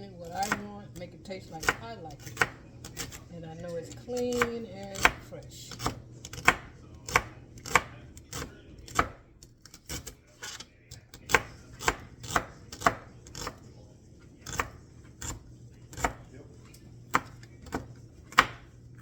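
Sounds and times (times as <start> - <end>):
knife chopping on cutting board: 0.2 - 13.6, 14.4 - 19.0.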